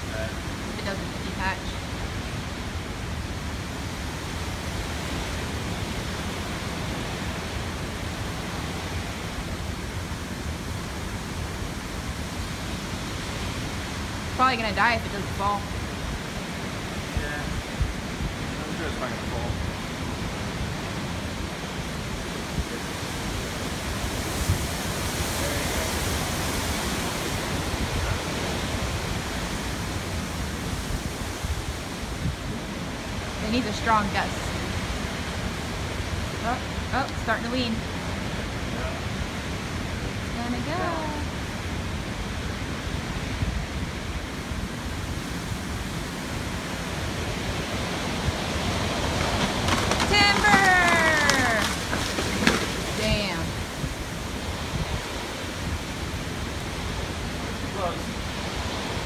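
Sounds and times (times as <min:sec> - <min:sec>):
hurricane-force wind blowing: 0:00.0 - 0:59.0.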